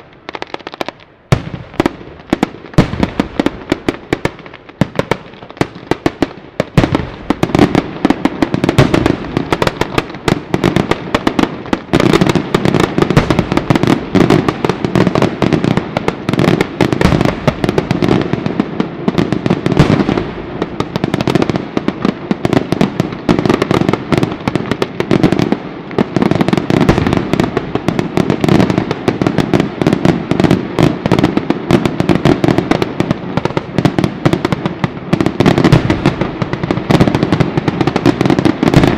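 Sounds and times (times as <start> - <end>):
firecrackers rapid-fire bangs: 0.0 - 38.9.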